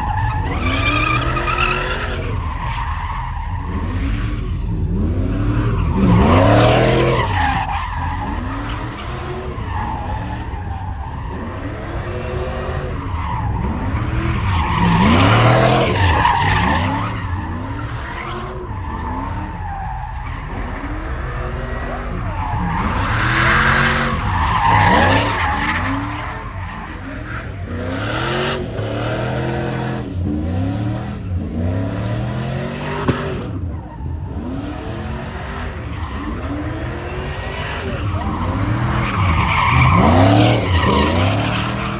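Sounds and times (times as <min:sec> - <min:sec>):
tires squealing and skidding: 0:00.0 - 0:41.9
truck engines revving: 0:00.0 - 0:41.9.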